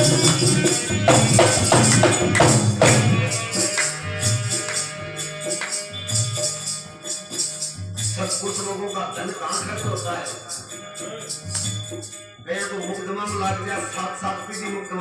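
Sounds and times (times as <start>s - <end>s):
dholak drum strokes: 0.0s - 14.6s
harmonium playing: 0.0s - 15.0s
metallic jingle: 0.0s - 15.0s.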